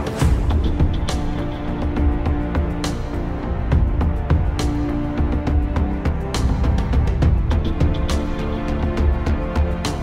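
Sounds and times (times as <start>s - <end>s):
music with heavy bass: 0.0s - 10.0s.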